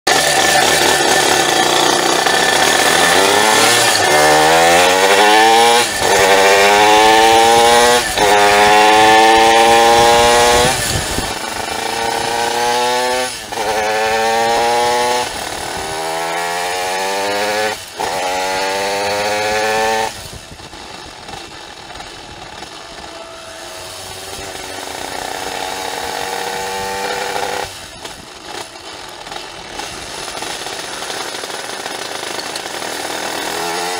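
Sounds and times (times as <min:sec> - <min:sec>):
moped engine accelerating: 0:00.1 - 0:33.9.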